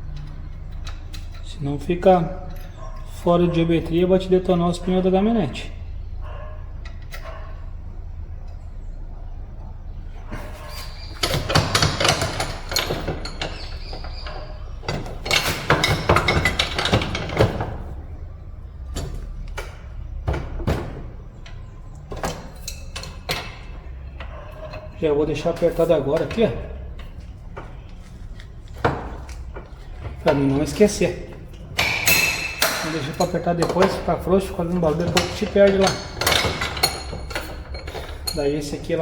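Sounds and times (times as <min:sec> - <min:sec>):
metal tools clattering and scraping: 0:00.0 - 0:08.8, 0:10.0 - 0:39.0.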